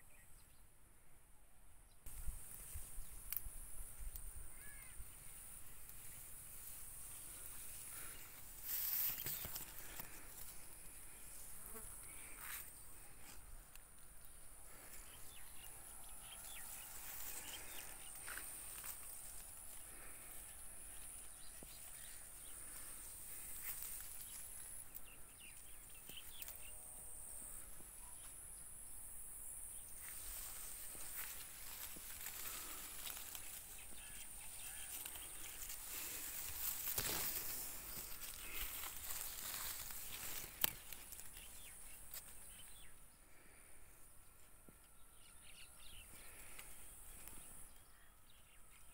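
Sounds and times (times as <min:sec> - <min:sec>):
leaves rustling: 0:02.1 - 0:28.6, 0:29.3 - 0:42.8
insects trilling: 0:02.1 - 0:48.9.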